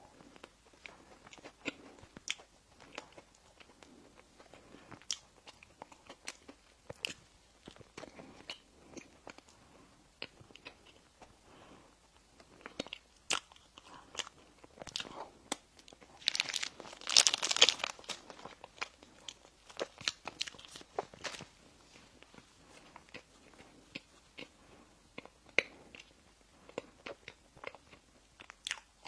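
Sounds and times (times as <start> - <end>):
crunching bread and pastry: 0.0 - 29.0
mouth clicks and smacks chewing: 0.1 - 29.0.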